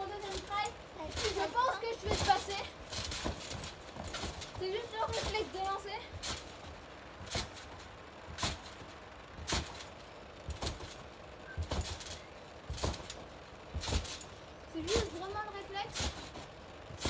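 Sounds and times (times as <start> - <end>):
trampoline landing thumps: 0.0 - 17.0
trampoline springs rattling: 0.0 - 17.0.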